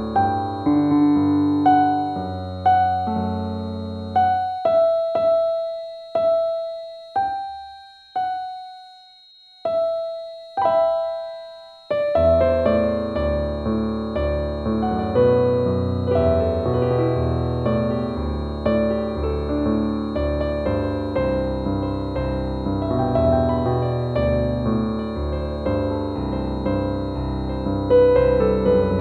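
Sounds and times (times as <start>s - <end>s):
slow solo piano: 0.0s - 8.8s, 9.6s - 29.0s
faint high tone: 0.0s - 29.0s.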